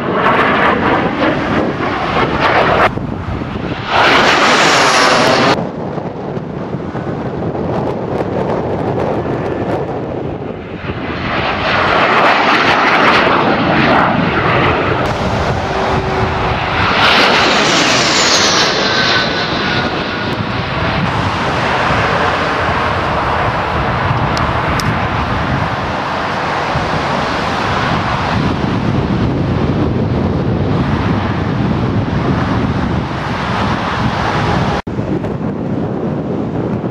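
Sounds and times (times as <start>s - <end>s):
jet aircraft roar: 0.0s - 36.9s
jet engine high whine: 0.0s - 36.9s.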